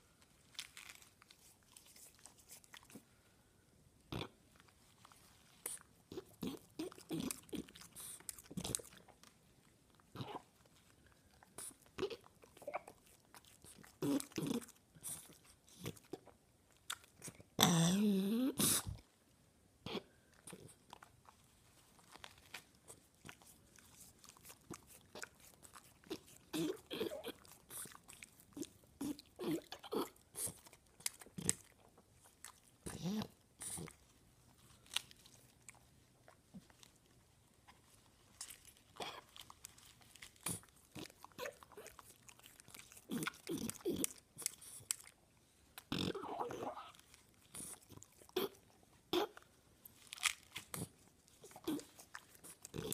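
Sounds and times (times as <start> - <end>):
dog chewing and crunching: 4.1 - 17.6, 20.4 - 52.9.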